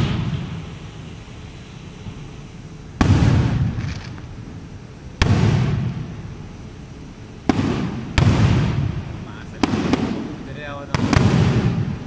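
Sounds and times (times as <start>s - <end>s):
firework shells booming: 0.0s - 12.0s.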